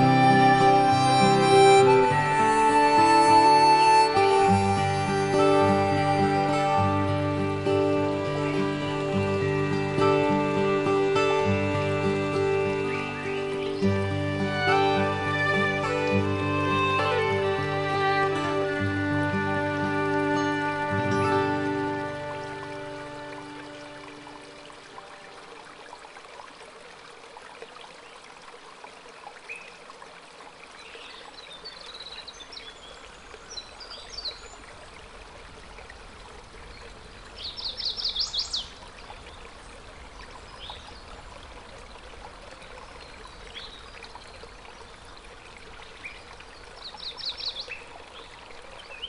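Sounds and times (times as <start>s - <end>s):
stream running: 0.0s - 49.0s.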